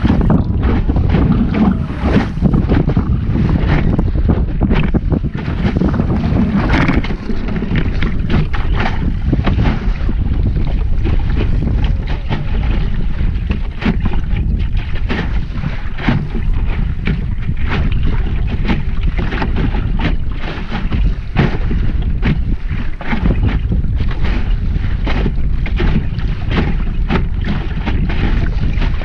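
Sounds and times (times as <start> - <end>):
waves slapping against hull: 0.0 - 29.0
wind rumbling on microphone: 0.0 - 29.0.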